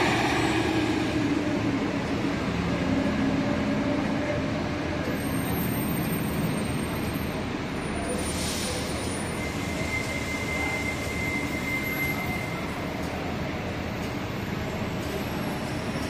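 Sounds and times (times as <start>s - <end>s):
bus engine running with echo: 0.0s - 16.0s.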